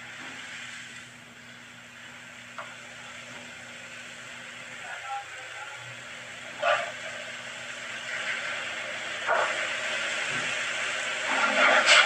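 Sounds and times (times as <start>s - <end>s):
batter sizzling in hot oil: 0.0s - 4.8s, 5.4s - 12.0s.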